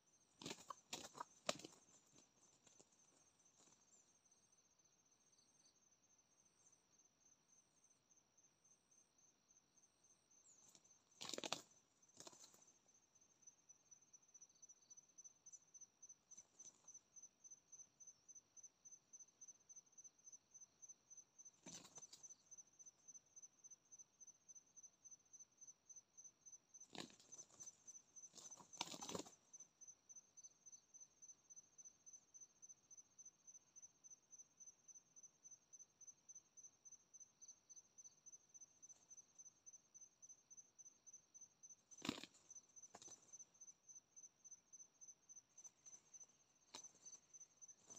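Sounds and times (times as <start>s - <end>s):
cricket chirping: 0.0s - 47.9s.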